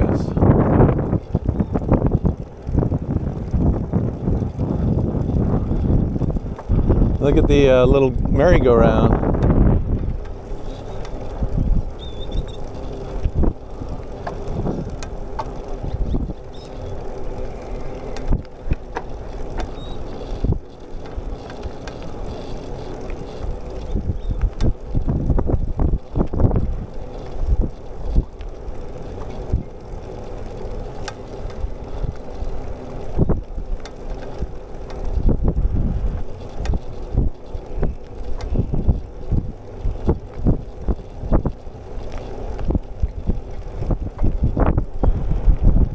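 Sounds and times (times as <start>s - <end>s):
bicycle tyres on pavement: 0.0s - 45.9s
wind on microphone: 0.0s - 45.9s
bike knocks and rattles: 0.2s - 45.9s.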